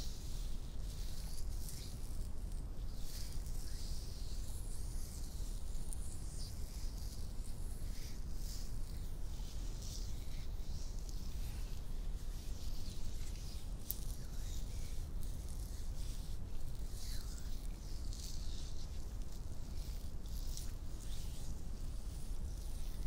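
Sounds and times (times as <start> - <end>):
skin rubbing: 0.1 - 23.0.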